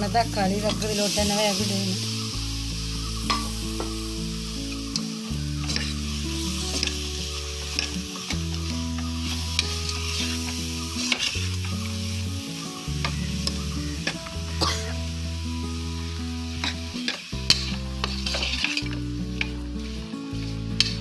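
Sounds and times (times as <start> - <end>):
onions sizzling in oil: 0.0 - 21.0
soft background music: 0.0 - 21.0.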